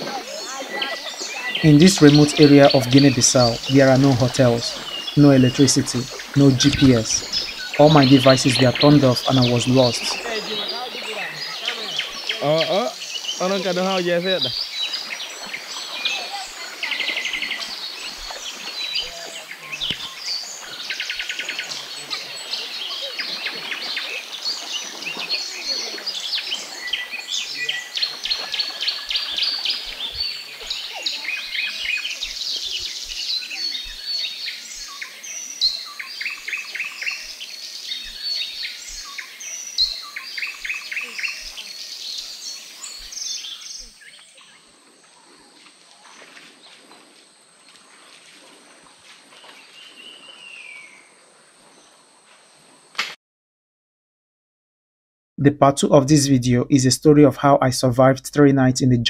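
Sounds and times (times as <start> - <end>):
birds chirping and singing: 0.0 - 47.0, 49.3 - 51.2.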